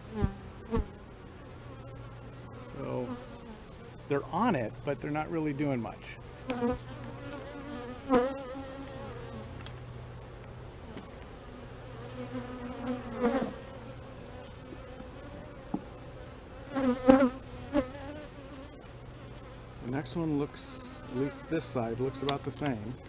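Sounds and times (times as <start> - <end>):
honey bees buzzing: 0.0 - 23.0.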